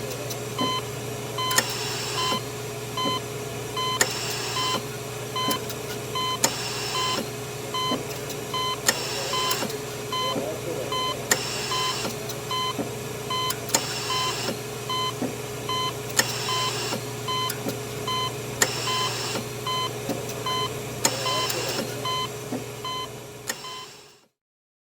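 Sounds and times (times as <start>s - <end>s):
high-pitched monitor beeping: 0.6s - 3.2s, 3.8s - 24.2s.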